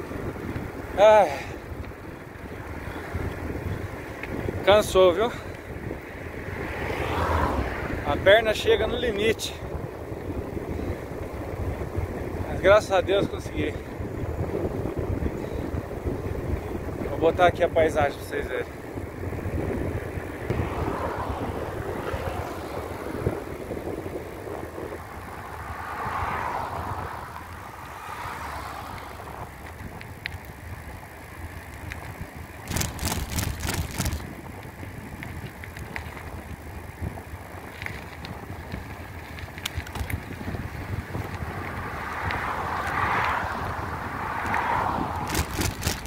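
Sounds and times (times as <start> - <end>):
bicycle tyres on asphalt: 0.0 - 46.0
bike rattling over ridges: 0.0 - 46.0
cars passing: 0.0 - 46.0
wind buffeting microphone: 0.0 - 46.0.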